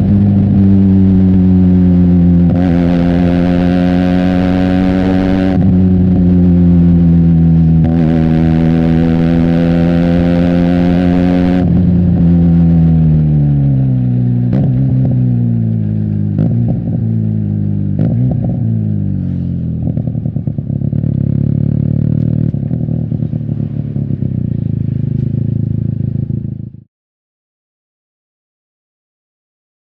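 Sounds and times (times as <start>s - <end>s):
motorcycle engine: 0.0s - 26.9s.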